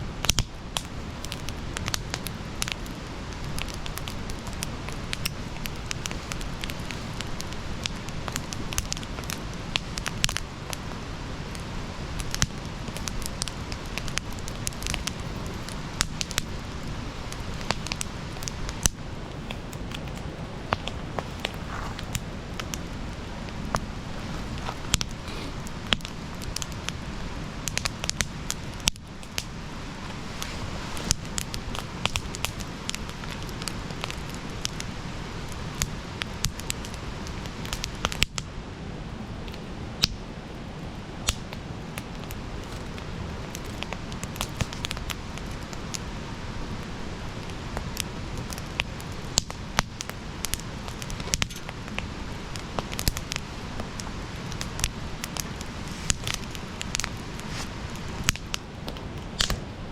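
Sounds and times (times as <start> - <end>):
bonfire crackling and popping: 0.0 - 59.9
low rush of flame: 0.0 - 59.9.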